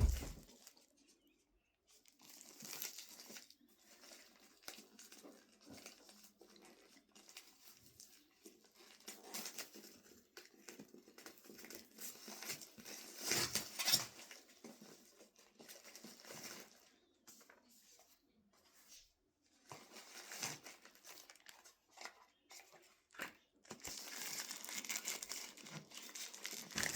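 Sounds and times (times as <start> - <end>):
paper and plastic rustling: 0.0 - 1.0, 2.0 - 26.9.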